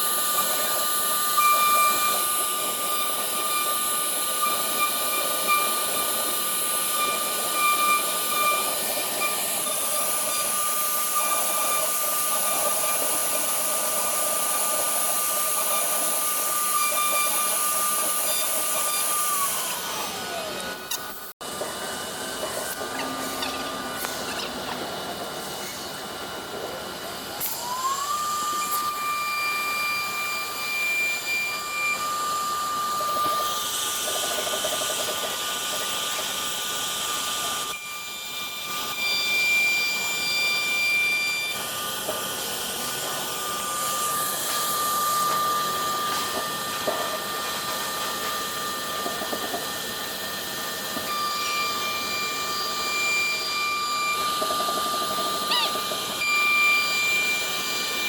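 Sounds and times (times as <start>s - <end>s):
cnc router spindle whine: 0.0s - 58.0s.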